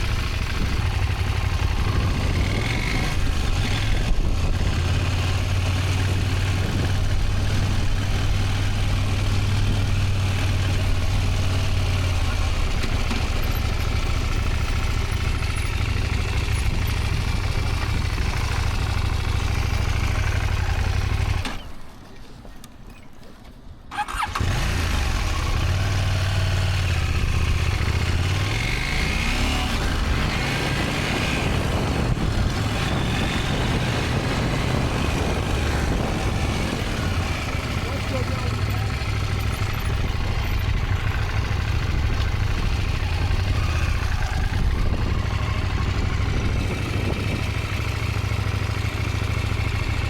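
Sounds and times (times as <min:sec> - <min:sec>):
motorcycle engine: 0:00.0 - 0:22.0, 0:23.9 - 0:50.0.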